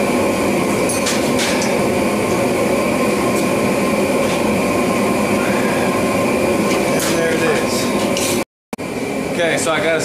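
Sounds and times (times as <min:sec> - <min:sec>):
gas forge burner roar: 0:00.0 - 0:10.0.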